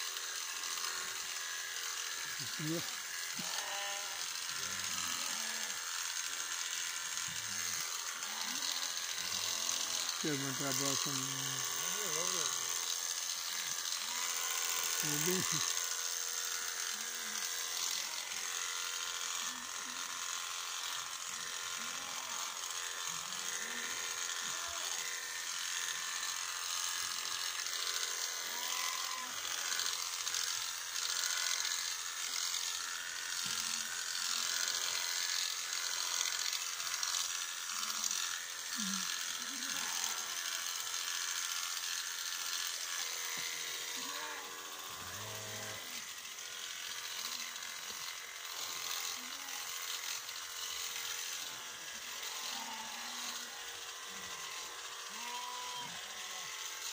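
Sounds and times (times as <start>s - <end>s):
electric shearing clippers buzzing: 0.0s - 56.9s.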